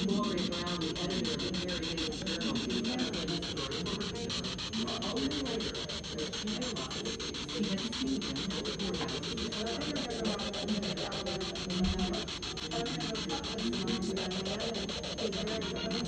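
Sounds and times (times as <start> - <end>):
muffled broadcast voices: 0.0 - 16.0
muffled radio music: 0.0 - 16.0
radio static chopping: 0.0 - 16.0.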